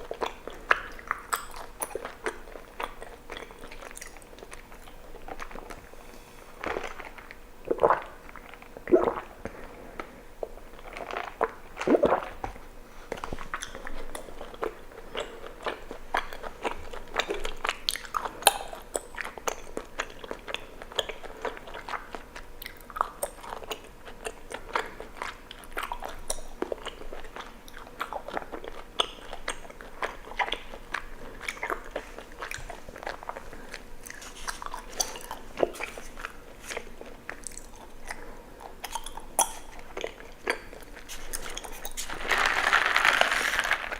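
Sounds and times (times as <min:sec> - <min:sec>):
person chewing wetly: 0:00.0 - 0:43.9.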